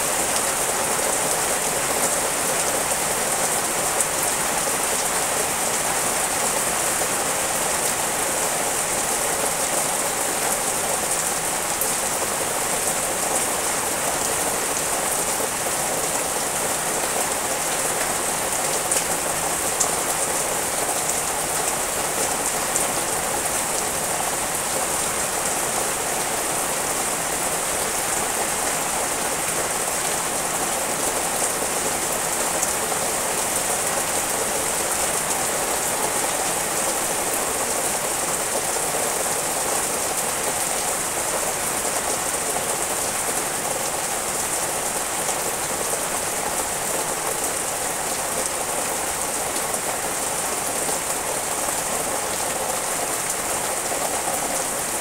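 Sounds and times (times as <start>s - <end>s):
rain falling through trees: 0.0s - 55.0s.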